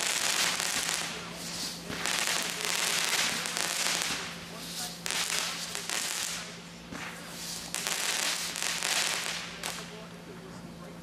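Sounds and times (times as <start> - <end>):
fireworks crackling: 0.0 - 10.2
steady low hum: 0.0 - 11.0.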